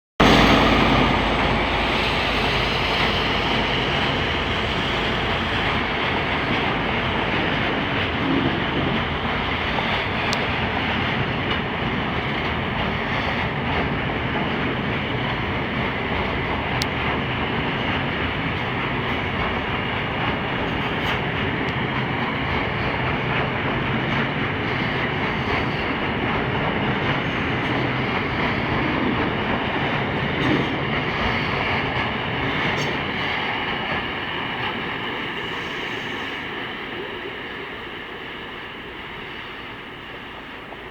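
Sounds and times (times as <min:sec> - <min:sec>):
freight train wheels rumbling: 0:00.2 - 0:40.9.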